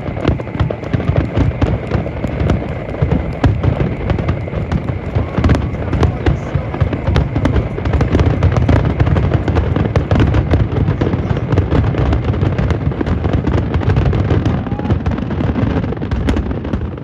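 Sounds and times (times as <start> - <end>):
fireworks bursting and crackling: 0.0 - 17.0
low rumble of booms: 0.0 - 17.0.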